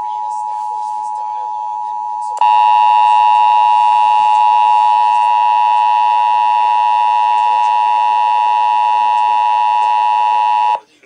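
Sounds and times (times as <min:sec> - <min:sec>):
two-tone alert signal: 0:01.7 - 0:10.8.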